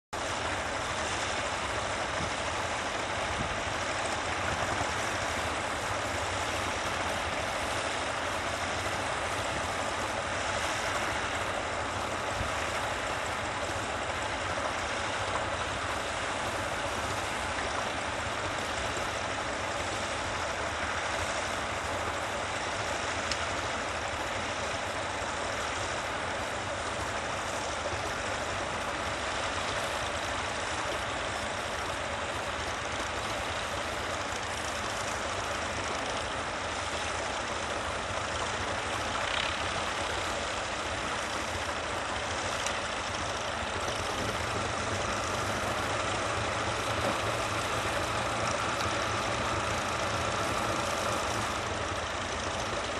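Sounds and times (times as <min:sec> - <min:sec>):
tractor engine running: 0:00.2 - 0:52.9.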